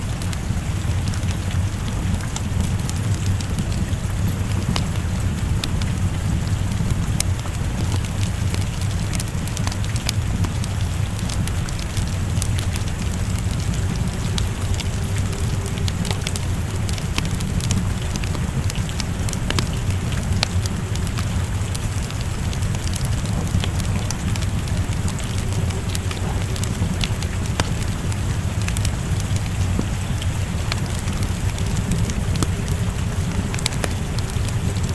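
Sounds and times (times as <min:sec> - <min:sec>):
steady rain: 0:00.0 - 0:34.9
wood fire crackling and popping: 0:00.0 - 0:34.9.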